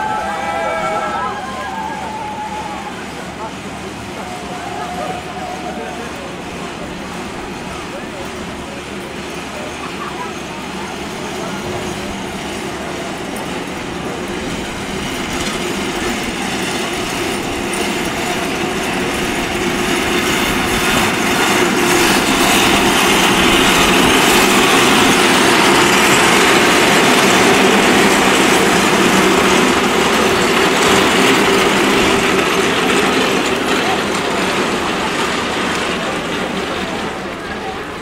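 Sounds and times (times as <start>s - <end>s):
metal barrels rolling on road: 4.1s - 38.0s.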